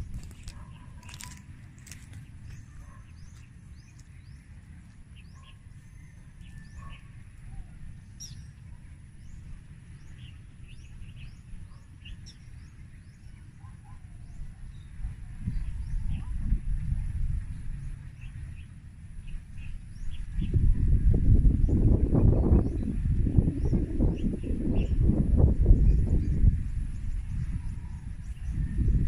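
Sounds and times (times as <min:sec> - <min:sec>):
small birds chirping: 0:00.0 - 0:20.8, 0:21.4 - 0:29.0
steady low rumble: 0:00.0 - 0:29.0.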